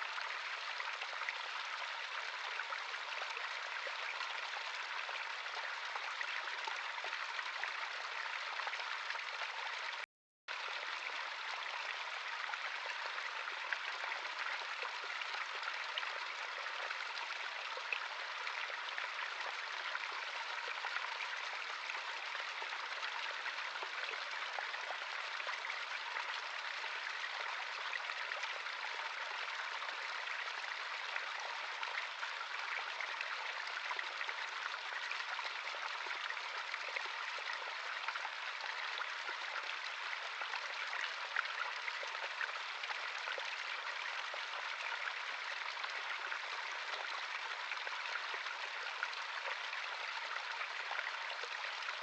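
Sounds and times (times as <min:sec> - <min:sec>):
stream babbling: 0:00.0 - 0:52.0.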